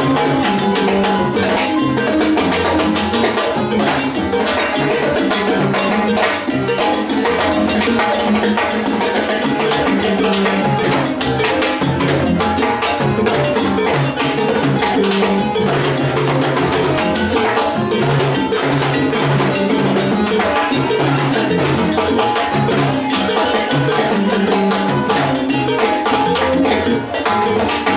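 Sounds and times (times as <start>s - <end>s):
congas: 0.0s - 27.9s
electric bass: 0.0s - 27.9s.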